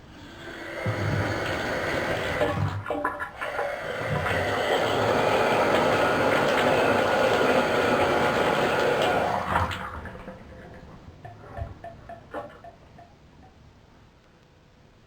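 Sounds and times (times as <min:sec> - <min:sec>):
faucet water running into drain: 0:00.1 - 0:12.7.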